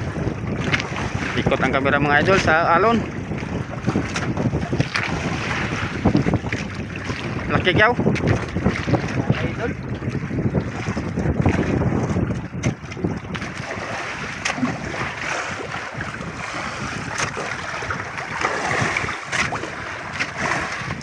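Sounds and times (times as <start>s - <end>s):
sea water lapping against boat: 0.0s - 21.0s
wind buffeting microphone: 0.0s - 21.0s.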